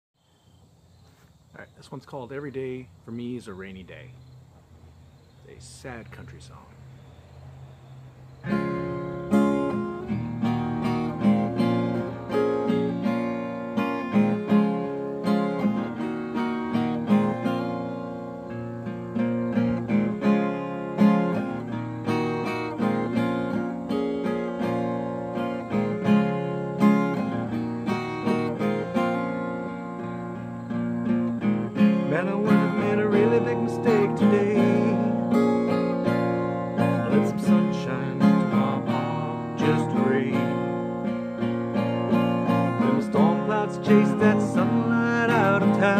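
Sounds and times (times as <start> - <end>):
acoustic guitar strummed chords: 5.5 - 45.9.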